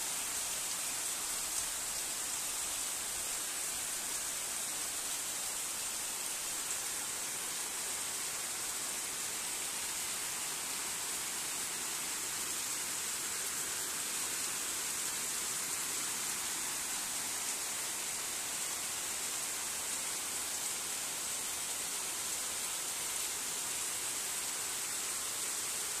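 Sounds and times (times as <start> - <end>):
heavy rain on trees and concrete: 0.0 - 26.0.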